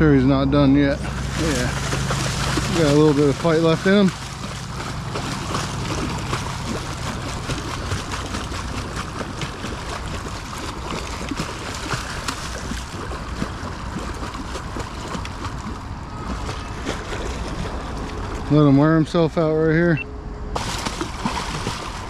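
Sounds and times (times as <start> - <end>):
water splashing and gurgling: 0.0 - 22.0.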